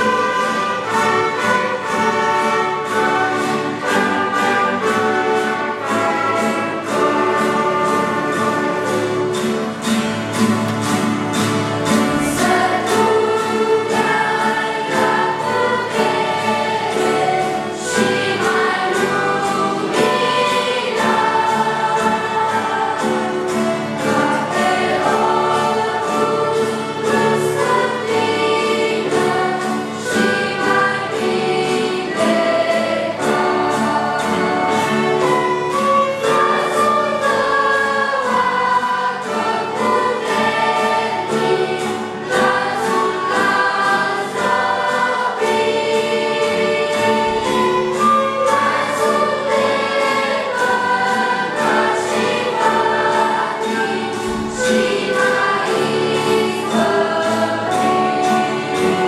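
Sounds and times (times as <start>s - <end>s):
choir singing a hymn: 0.0s - 59.0s
plucked strings steady beat: 0.0s - 59.0s
youth orchestra playing: 0.0s - 59.0s.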